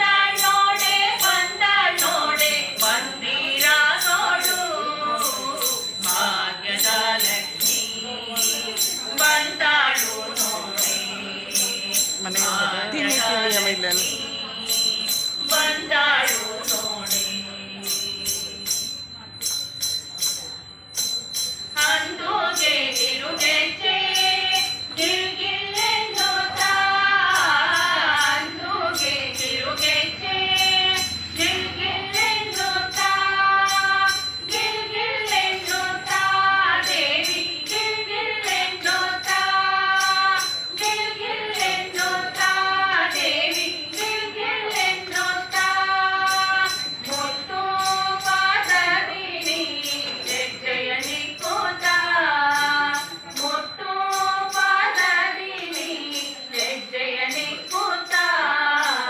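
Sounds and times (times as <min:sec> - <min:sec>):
women singing devotional song: 0:00.0 - 0:19.7, 0:21.7 - 0:59.0
jingling hand percussion: 0:00.0 - 0:59.0.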